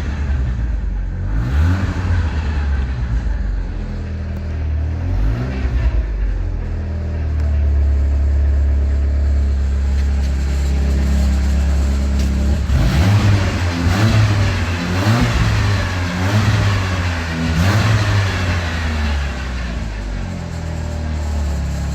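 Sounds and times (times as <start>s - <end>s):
engine revving in blips: 0.0s - 8.2s, 9.6s - 20.9s
car engine idling: 0.0s - 21.9s.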